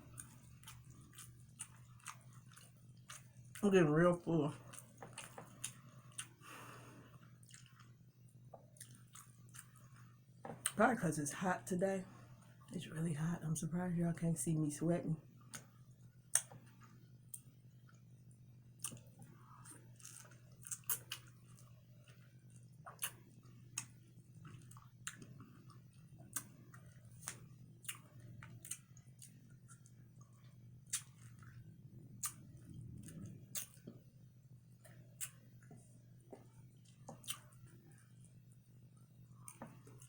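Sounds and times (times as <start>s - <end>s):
chewing and mouth sounds: 0.0s - 3.7s, 4.5s - 10.8s, 15.4s - 40.0s
faint steady hum: 0.0s - 40.0s.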